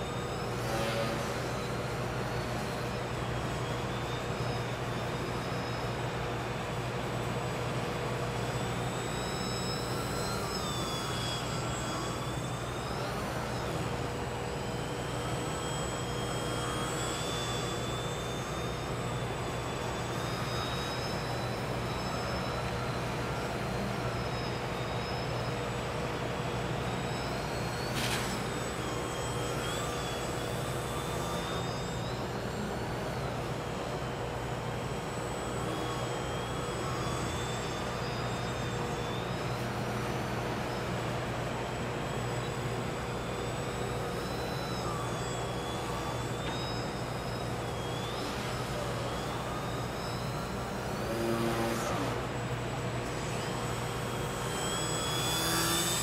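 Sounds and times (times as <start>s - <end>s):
electric motor and propeller whining: 0.0s - 56.0s
steady low hum: 0.0s - 56.0s.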